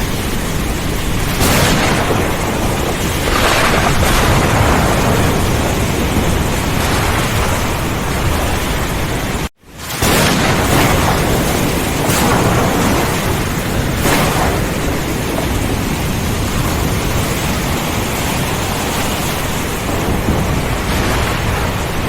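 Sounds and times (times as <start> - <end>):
heavy rain falling: 0.0 - 22.0
low rumble of thunder: 0.0 - 22.0.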